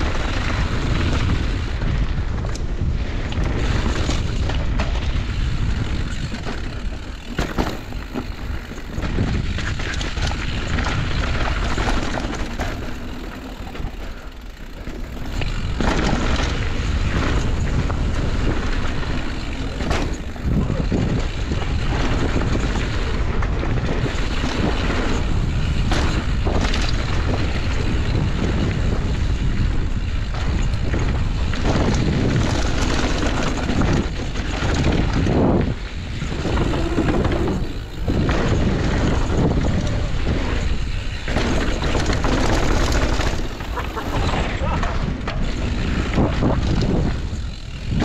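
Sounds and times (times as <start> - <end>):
bike rattling and knocking: 0.0 - 48.0
bike tyres on gravel trail: 0.0 - 48.0
wind buffeting microphone: 0.0 - 48.0.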